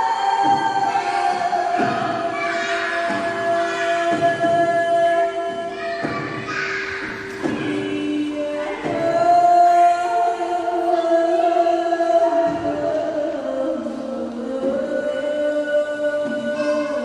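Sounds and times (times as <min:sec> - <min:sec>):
person singing long held notes: 0:00.0 - 0:17.0.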